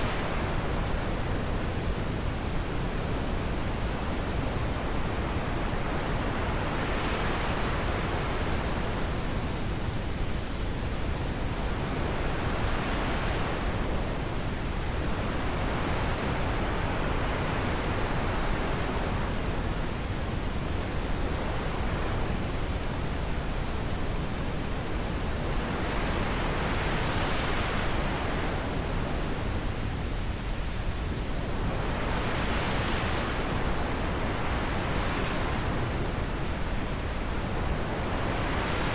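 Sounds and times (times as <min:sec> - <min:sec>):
wind blowing in gusts: 0:00.0 - 0:38.9.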